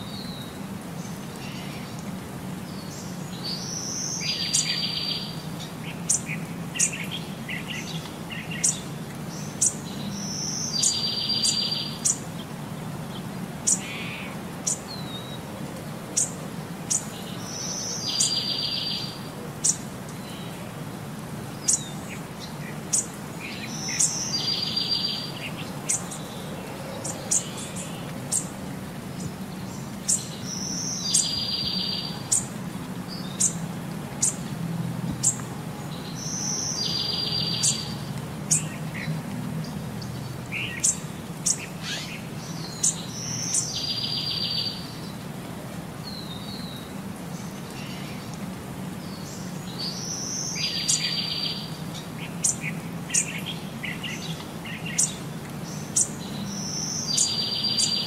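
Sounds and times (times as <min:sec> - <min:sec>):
birds chirping: 0:02.7 - 0:15.5, 0:16.1 - 0:20.7, 0:21.4 - 0:34.5, 0:35.1 - 0:45.2, 0:46.0 - 0:58.0.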